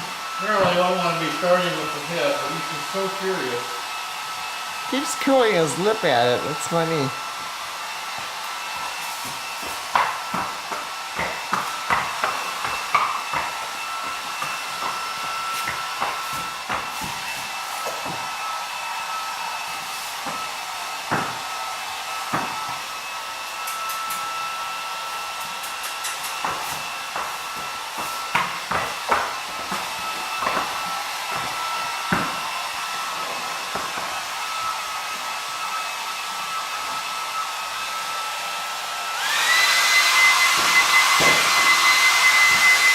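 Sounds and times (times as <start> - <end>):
hair dryer running: 0.0 - 42.9.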